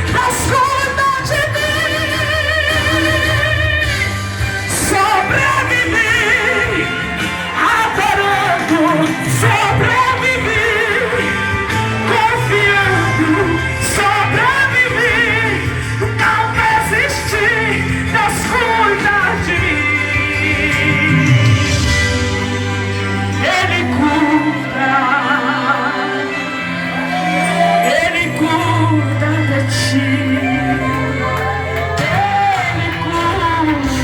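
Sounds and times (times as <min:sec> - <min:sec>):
band accompaniment: 0:00.0 - 0:34.0.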